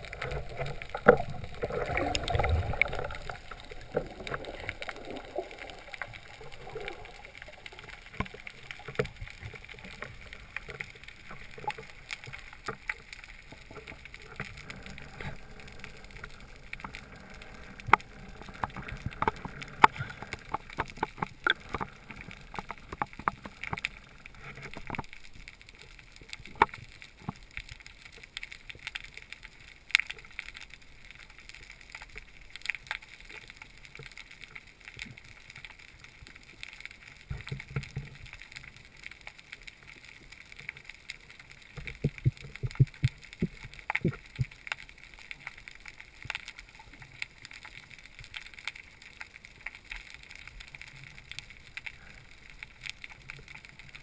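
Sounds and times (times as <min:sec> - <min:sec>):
sharp clicks and crackles: 0:00.0 - 0:54.0.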